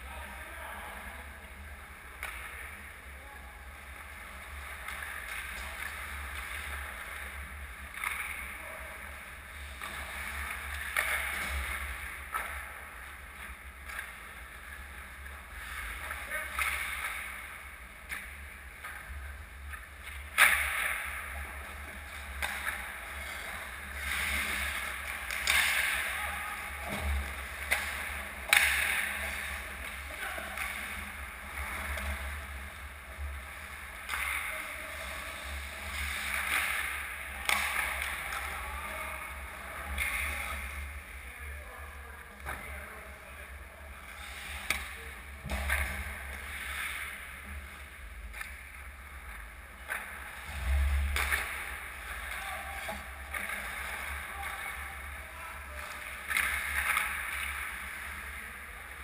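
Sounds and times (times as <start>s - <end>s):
low arena hum: 0.0s - 59.0s
cracks of pucks and sticks: 1.5s - 2.9s, 4.4s - 39.0s, 39.8s - 40.9s, 44.5s - 59.0s.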